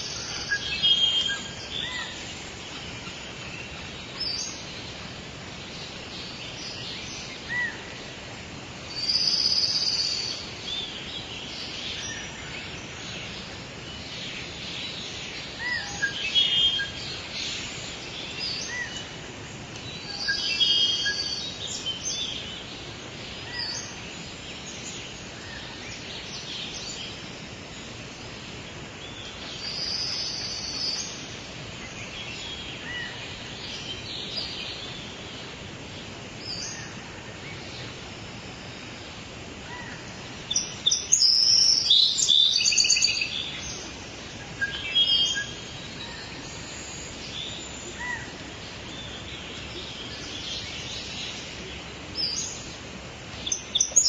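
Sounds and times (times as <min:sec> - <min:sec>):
birds chirping: 0:00.0 - 0:54.0
steady background hiss: 0:00.0 - 0:54.0.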